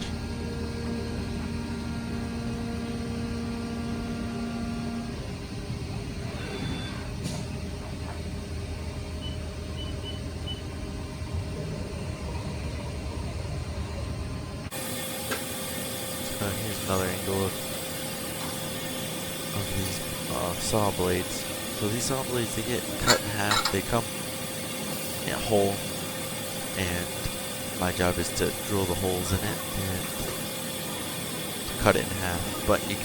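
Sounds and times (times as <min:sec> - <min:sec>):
milling machine humming: 0:00.0 - 0:33.0.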